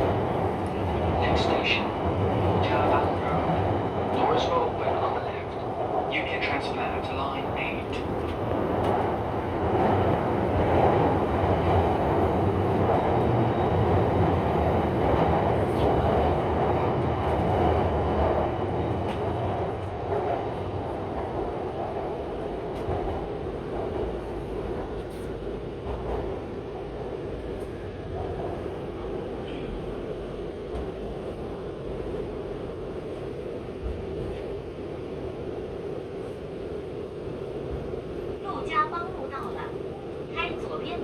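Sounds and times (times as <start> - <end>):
underground train rumbling: 0.0 - 41.0.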